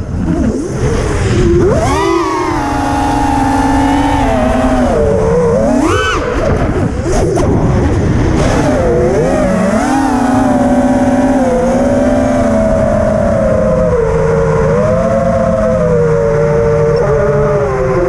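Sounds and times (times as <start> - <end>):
wind rushing: 0.0 - 16.5
drone motors whining: 0.0 - 18.0.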